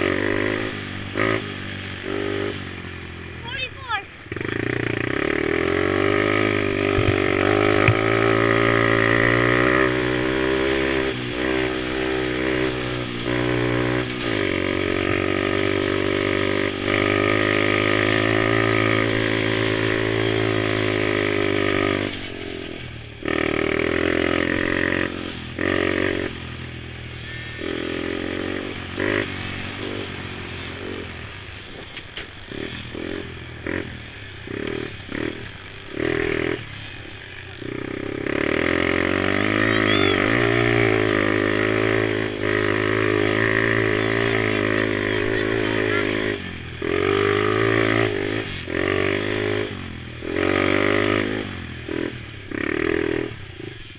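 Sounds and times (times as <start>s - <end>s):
small quad engines revving: 0.0s - 53.9s.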